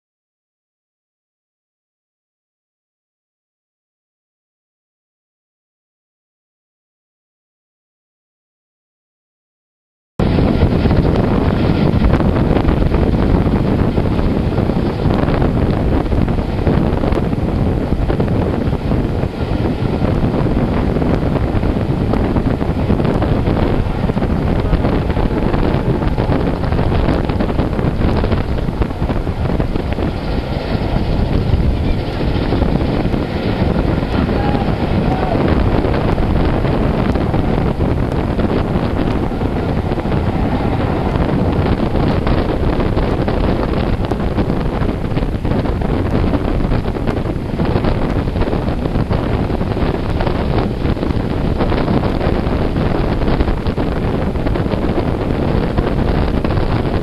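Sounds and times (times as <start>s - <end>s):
train carriages rumbling on track: 10.2s - 57.0s
wind buffeting microphone: 10.2s - 57.0s.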